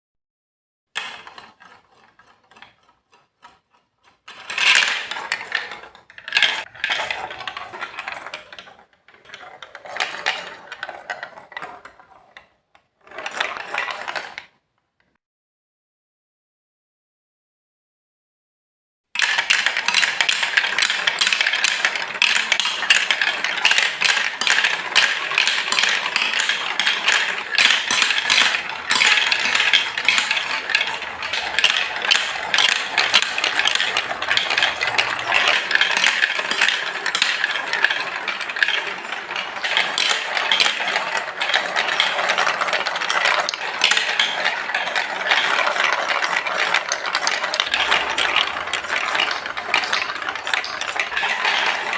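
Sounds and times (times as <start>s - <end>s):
marbles clattering on plastic track: 1.0s - 14.6s, 19.2s - 51.9s.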